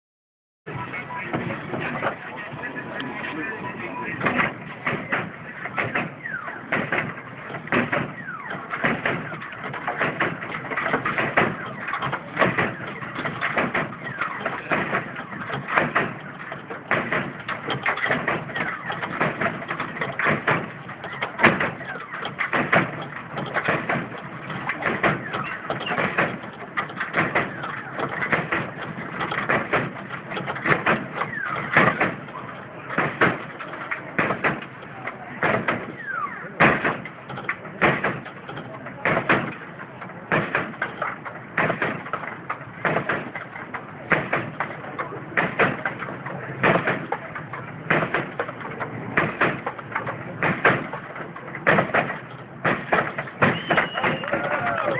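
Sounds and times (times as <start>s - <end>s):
bouncing car knocks and bumps: 0.7s - 54.9s
suspension squeaks: 0.7s - 54.9s.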